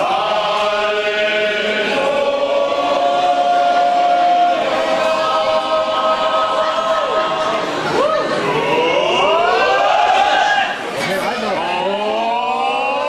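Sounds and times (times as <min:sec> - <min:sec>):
group singing in unison: 0:00.0 - 0:10.5.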